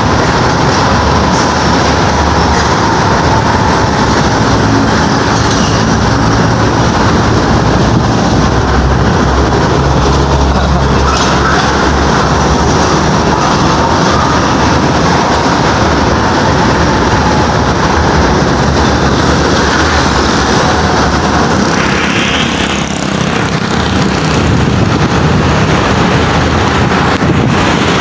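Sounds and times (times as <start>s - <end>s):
trucks passing close by: 0.0s - 28.0s.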